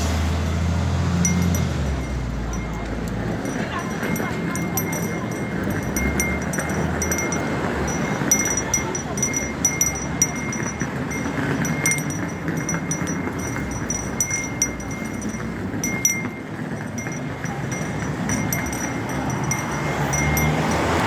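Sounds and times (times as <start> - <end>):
hand bell clanging: 0.0 - 21.0.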